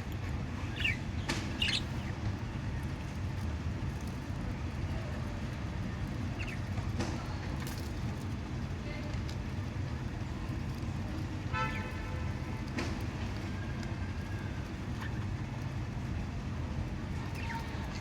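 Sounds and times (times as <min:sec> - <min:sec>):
low rumble of road traffic: 0:00.0 - 0:18.0.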